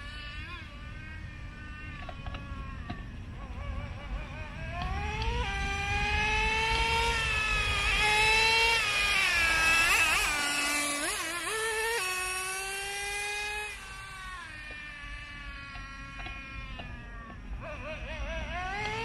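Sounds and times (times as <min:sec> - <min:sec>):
rc truck engine high-pitched whine: 0:00.0 - 0:19.0.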